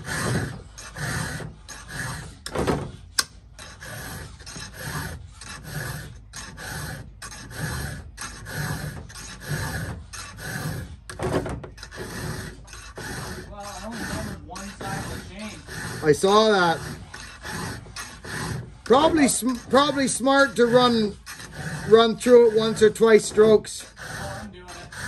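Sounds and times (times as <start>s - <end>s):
file rasping on saw chain: 0.0s - 25.0s.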